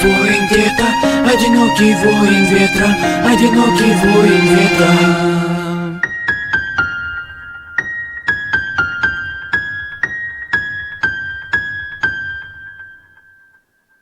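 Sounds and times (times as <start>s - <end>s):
keyboard melody: 0.0s - 13.2s.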